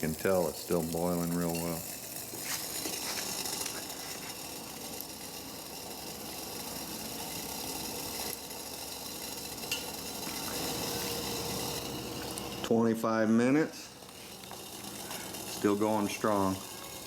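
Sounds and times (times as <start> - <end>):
water boiling in a pot: 0.0 - 17.0.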